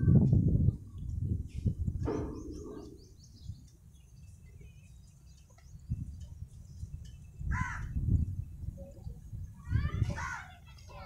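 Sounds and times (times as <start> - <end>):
birds chirping: 0.7 - 11.0.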